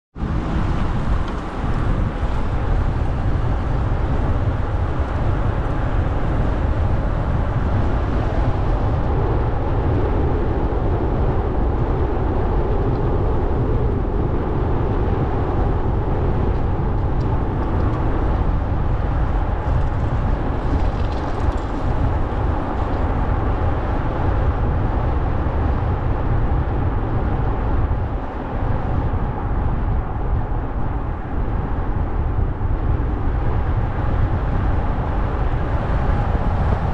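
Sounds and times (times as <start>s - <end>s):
car road and engine rumble: 0.1s - 36.9s.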